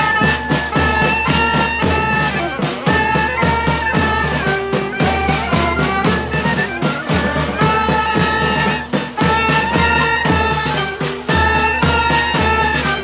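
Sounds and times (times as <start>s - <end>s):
steady drum beat: 0.0s - 13.0s
wind instruments playing melody: 0.0s - 13.0s.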